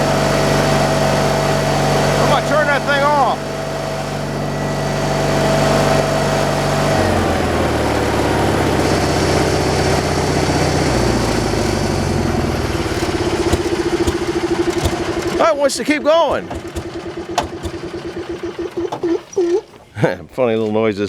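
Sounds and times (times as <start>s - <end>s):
engine running: 0.0s - 20.2s.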